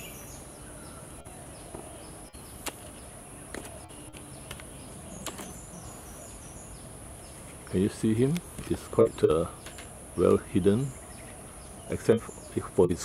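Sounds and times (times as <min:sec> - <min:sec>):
falling bird chirps: 0:00.0 - 0:12.7.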